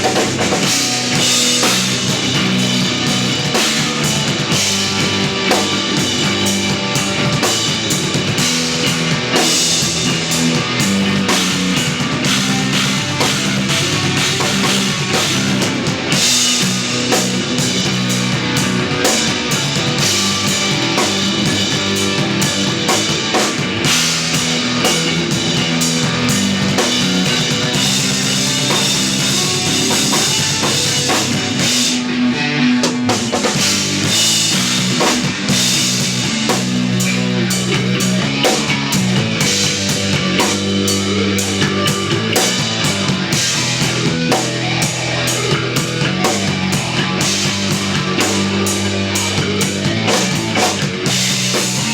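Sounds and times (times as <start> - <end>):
drum kit: 0.0 - 51.9
electric bass: 0.0 - 51.9
electric guitar: 0.0 - 51.9.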